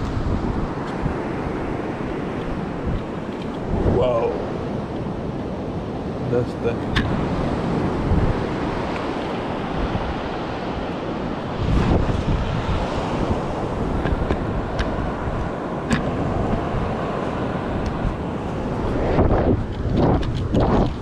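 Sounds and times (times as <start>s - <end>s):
surf washing onto beach: 0.0s - 21.0s
wind buffeting microphone: 0.0s - 21.0s.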